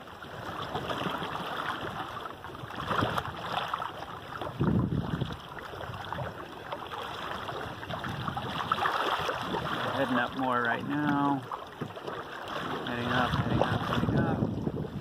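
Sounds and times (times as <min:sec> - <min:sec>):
wind buffeting microphone: 0:00.0 - 0:12.0, 0:12.6 - 0:15.0
water rushing and splashing: 0:00.0 - 0:15.0.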